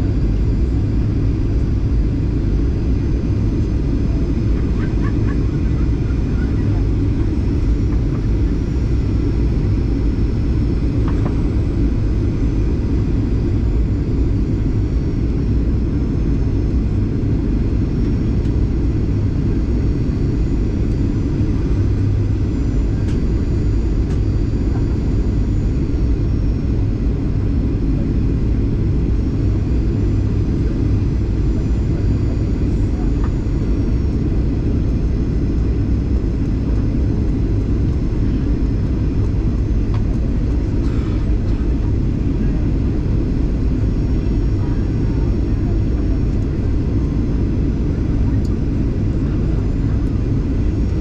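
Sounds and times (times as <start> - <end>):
jet engine and airflow rumble: 0.0 - 51.0.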